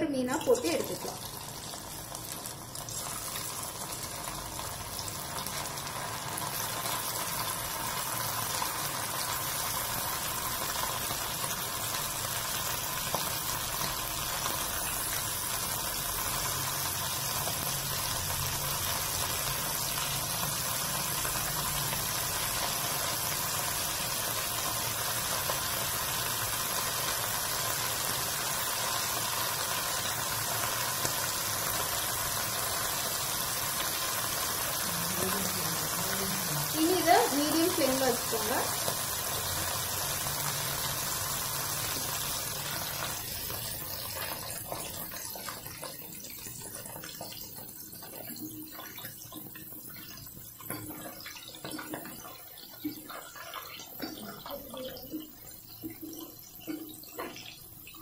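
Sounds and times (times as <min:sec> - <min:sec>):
fish deep-frying in oil: 0:00.0 - 0:58.0.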